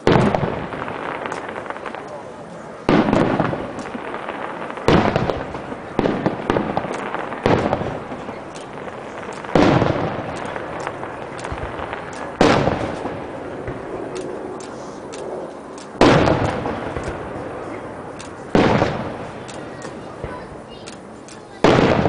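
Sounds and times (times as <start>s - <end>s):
fireworks bangs: 0.0s - 22.0s
small firework pops: 0.0s - 22.0s
faint crackling: 0.1s - 22.0s.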